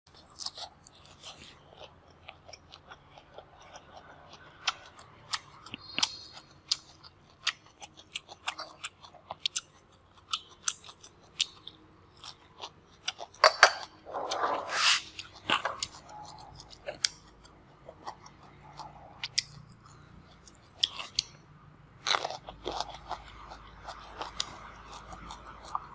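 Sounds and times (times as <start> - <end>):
crunchy chewing of food: 0.1 - 25.9.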